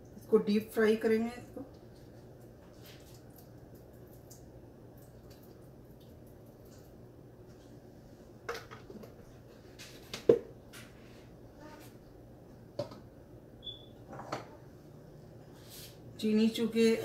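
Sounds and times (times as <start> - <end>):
faint steady background hum: 0.0 - 17.0.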